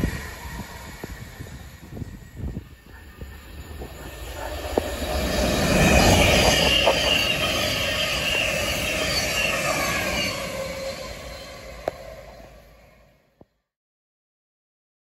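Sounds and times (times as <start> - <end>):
electric train passing with whine: 0.0 - 13.4.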